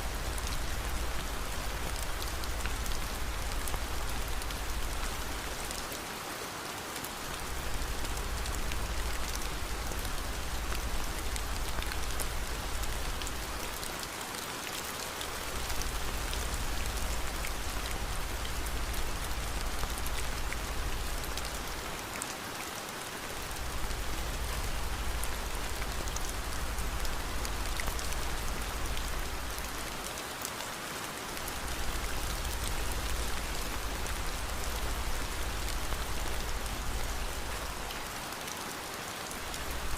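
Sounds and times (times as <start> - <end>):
heavy rain: 0.0 - 39.9
rain drops ticking: 0.0 - 39.9.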